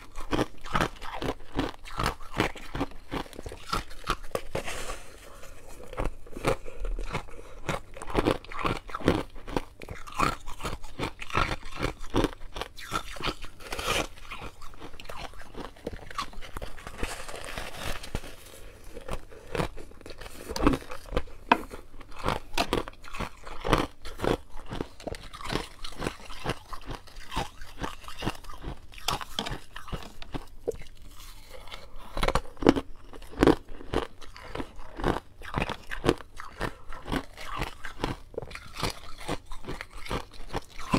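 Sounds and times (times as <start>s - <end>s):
frost being chewed: 0.0s - 40.9s.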